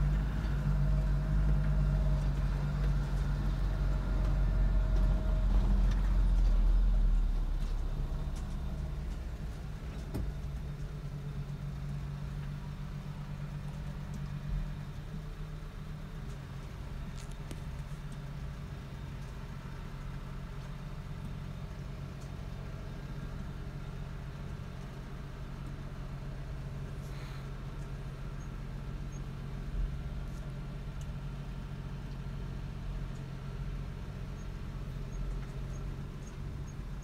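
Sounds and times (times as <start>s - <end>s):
truck and forklift engines humming: 0.0s - 37.0s.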